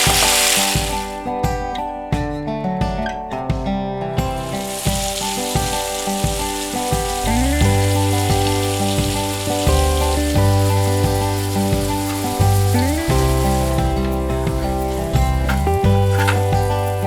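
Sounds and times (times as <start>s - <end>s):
fish sizzling in oil: 0.0s - 1.2s, 4.4s - 17.0s
background music with beat: 0.0s - 17.0s.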